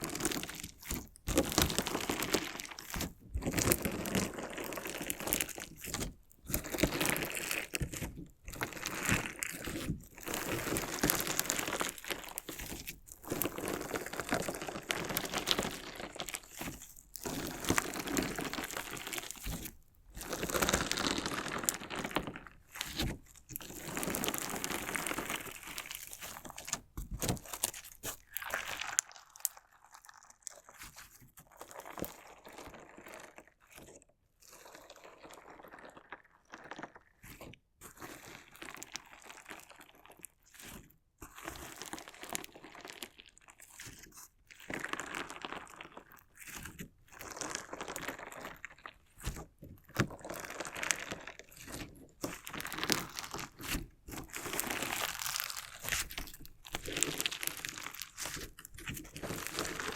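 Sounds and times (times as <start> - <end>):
crunchy slime crackling: 0.0 - 40.8, 41.4 - 59.9.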